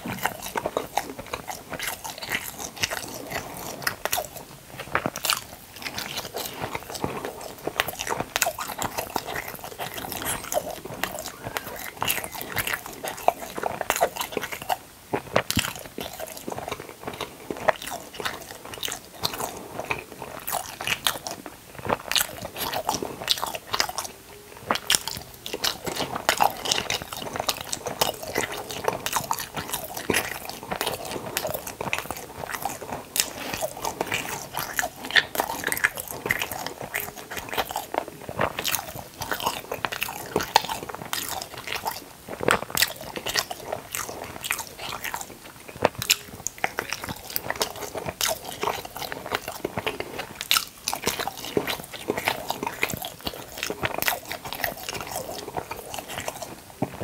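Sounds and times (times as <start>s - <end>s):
close chewing and biting: 0.0s - 57.0s.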